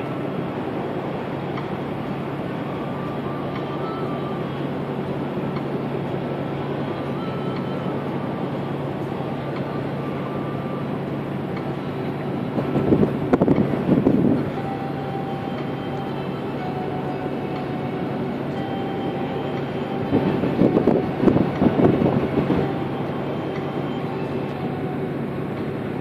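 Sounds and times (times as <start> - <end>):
low hum: 0.0 - 26.0
vehicle engine drone: 0.0 - 26.0.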